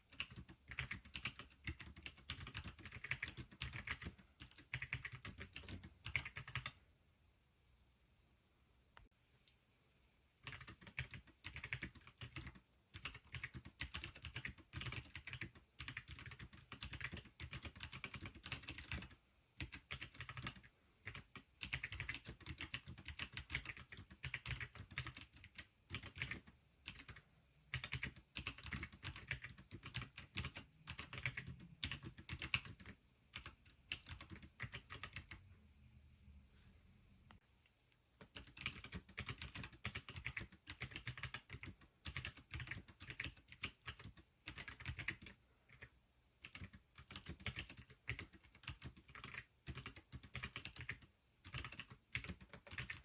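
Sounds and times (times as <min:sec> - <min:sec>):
mechanical keyboard typing: 0:00.0 - 0:06.8, 0:10.4 - 0:35.4, 0:38.2 - 0:53.0.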